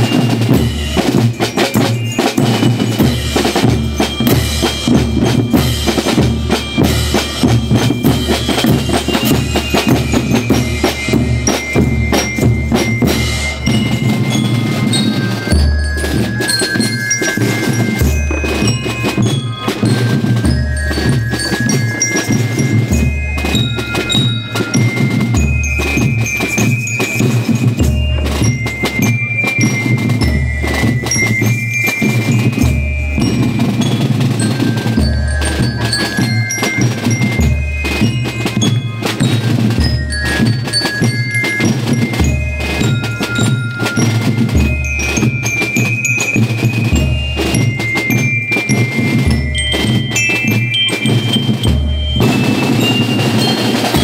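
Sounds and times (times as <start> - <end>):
bell lyre melody: 0.0 - 54.0
snare drums rattling: 0.0 - 54.0.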